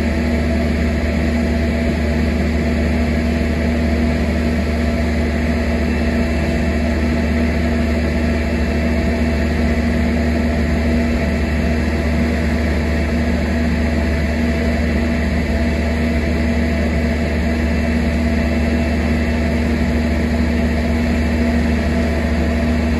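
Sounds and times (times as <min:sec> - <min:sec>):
engine humming steadily: 0:00.0 - 0:22.9.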